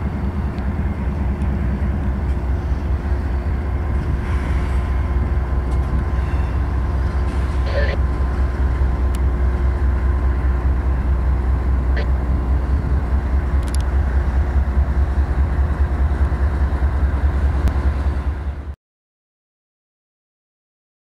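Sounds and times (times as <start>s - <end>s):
freight train rumbling past: 0.0s - 18.8s.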